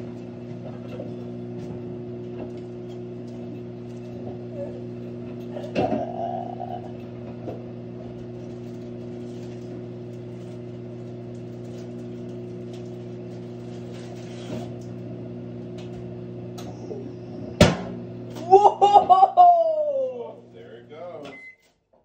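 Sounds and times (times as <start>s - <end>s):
microwave oven humming: 0.0s - 21.9s.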